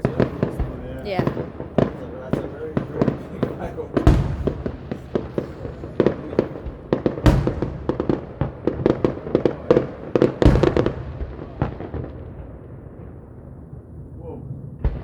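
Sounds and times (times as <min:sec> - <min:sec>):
fireworks cracking and popping: 0:00.0 - 0:13.2
fireworks booms: 0:00.0 - 0:15.0.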